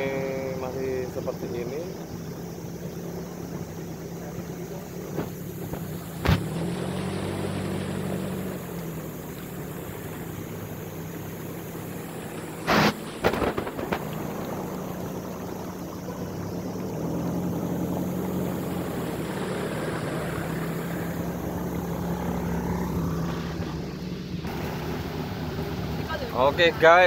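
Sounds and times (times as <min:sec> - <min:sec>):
vehicle engine humming: 0:00.0 - 0:27.0
water wash and tyre noise: 0:00.0 - 0:27.0.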